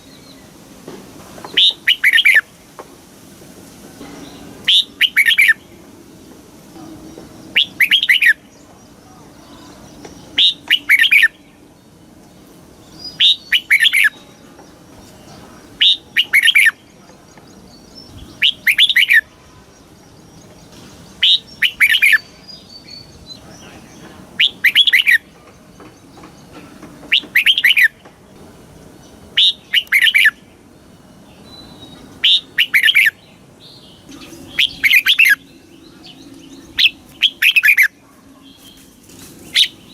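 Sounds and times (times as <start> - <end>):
bulbul singing: 1.4 - 2.7, 4.0 - 39.9.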